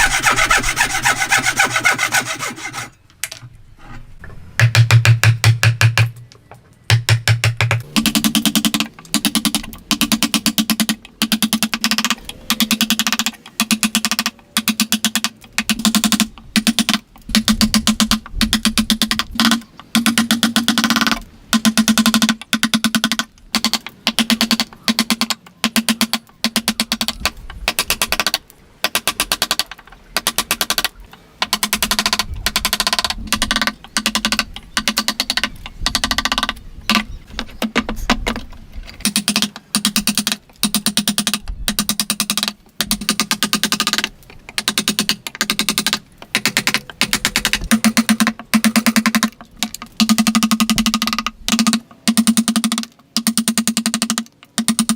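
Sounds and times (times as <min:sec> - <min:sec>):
hand tools ticking on wood: 0:00.0 - 0:02.9, 0:06.9 - 0:38.4, 0:39.0 - 0:54.9.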